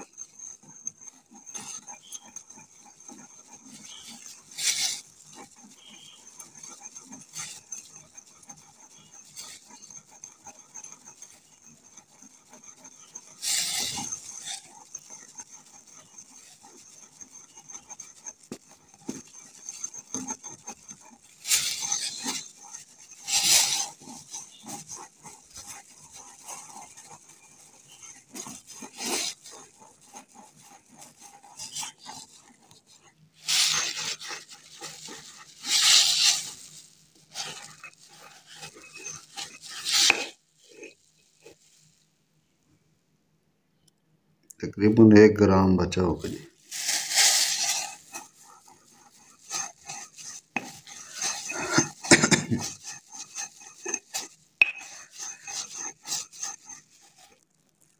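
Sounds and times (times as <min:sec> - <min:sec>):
pestle grinding in a mortar: 0:00.0 - 0:42.0, 0:45.9 - 0:57.9.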